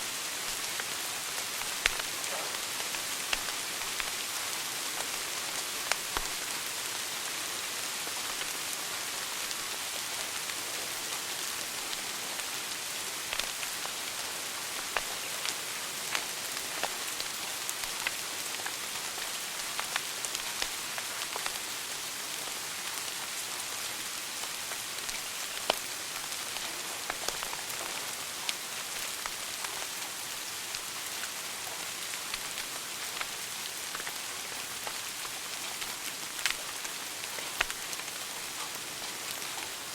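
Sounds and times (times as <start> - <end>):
wood fire crackling: 0.4 - 6.6, 11.4 - 39.9.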